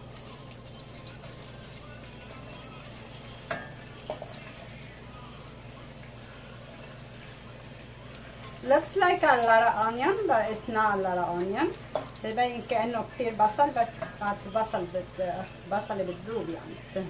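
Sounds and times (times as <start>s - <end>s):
onions sizzling in a pot: 0.0s - 17.0s.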